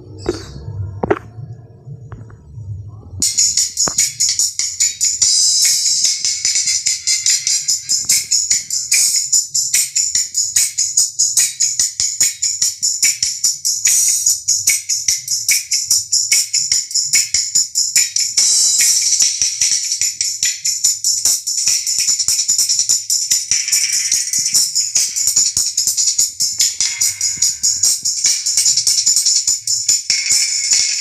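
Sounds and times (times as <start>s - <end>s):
tinny music with cymbals: 3.2s - 31.0s.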